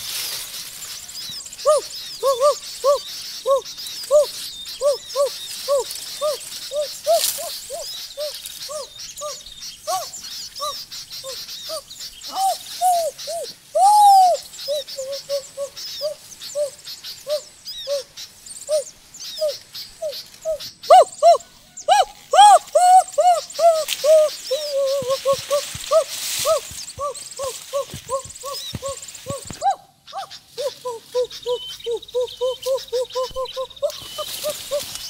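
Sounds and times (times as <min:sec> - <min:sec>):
faint high chirping: 0:00.0 - 0:35.0.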